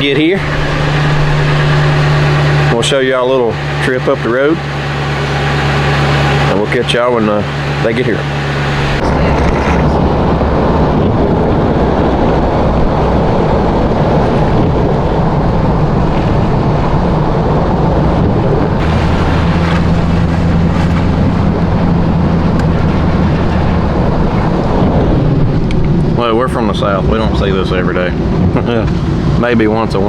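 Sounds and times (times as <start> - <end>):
car engine hum: 0.0 - 30.0
road and tyre noise: 0.0 - 30.0.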